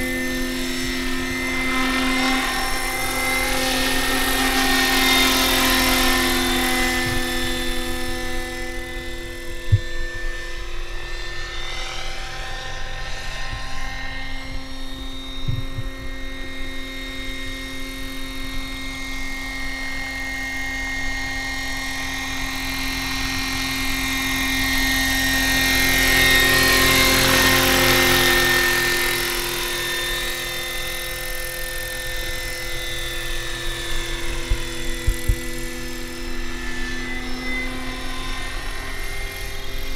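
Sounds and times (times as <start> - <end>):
model helicopter whining: 0.0 - 39.9.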